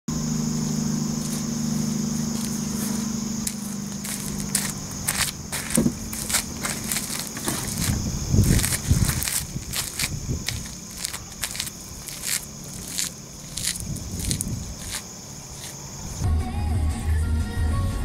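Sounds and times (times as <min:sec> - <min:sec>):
low hum: 0:00.1 - 0:16.8
chest waders rustling and crinkling: 0:01.2 - 0:16.2.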